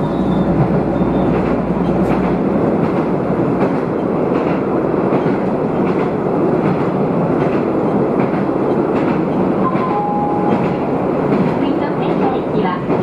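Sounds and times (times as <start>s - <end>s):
railcar engine and wheels rumbling: 0.0s - 13.0s.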